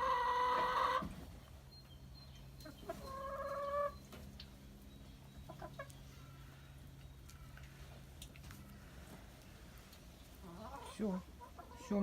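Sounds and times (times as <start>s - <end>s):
farm animal calls: 0.0s - 12.0s.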